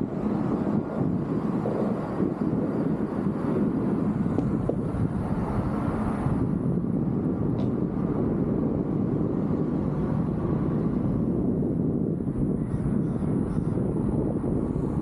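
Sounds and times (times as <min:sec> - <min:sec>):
bike tyre noise: 0:00.0 - 0:15.0
wind on microphone: 0:00.0 - 0:15.0.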